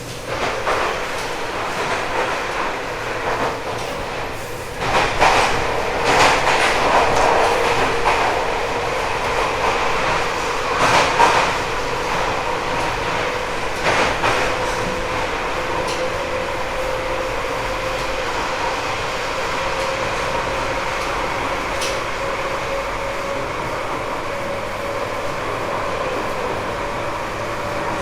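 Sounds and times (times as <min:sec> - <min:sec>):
traction motors humming: 0:00.0 - 0:28.0
train wheels rumbling: 0:00.0 - 0:28.0
wheels clacking over rail joints: 0:00.0 - 0:28.0.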